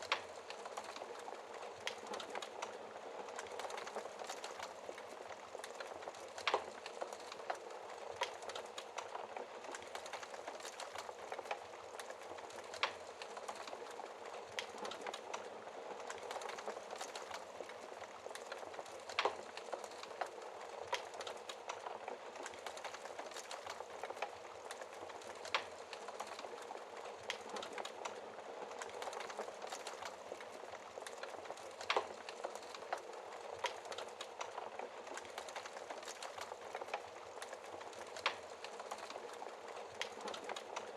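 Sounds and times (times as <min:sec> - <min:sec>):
fire hissing and rustling: 0:00.0 - 0:40.9
small fire crackles: 0:00.0 - 0:40.9.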